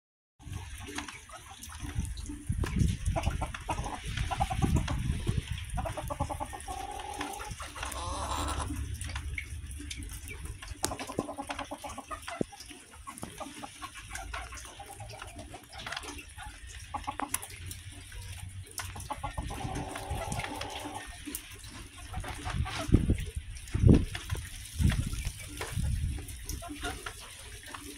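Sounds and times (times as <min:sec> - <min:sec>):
hens clucking: 0:00.5 - 0:09.3, 0:09.9 - 0:23.4, 0:24.0 - 0:27.9.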